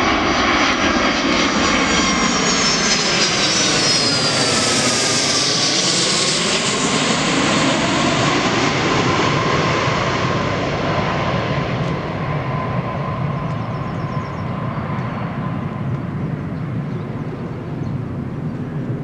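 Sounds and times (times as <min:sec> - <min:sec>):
jet engine whine: 0:00.0 - 0:19.0
jet engines rushing: 0:00.0 - 0:19.0.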